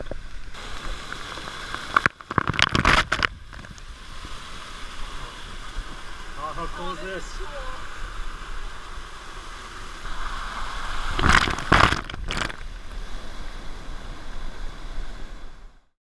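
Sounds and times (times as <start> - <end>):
water splashing on camera: 0.0 - 13.5
waterfall rushing: 0.5 - 14.1.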